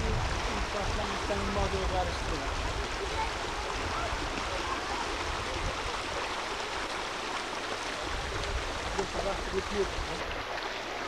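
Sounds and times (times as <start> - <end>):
stream running over stones: 0.0 - 11.0.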